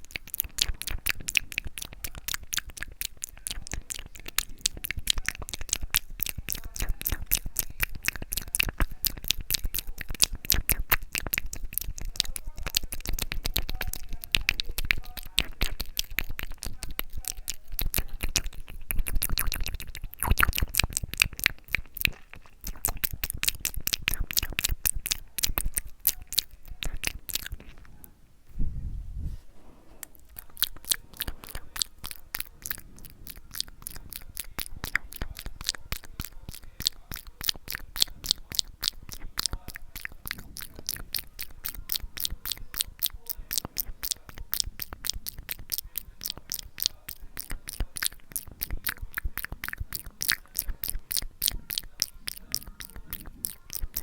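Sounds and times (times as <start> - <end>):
wet mouth clicks and smacks: 0.0 - 28.1, 30.0 - 54.0.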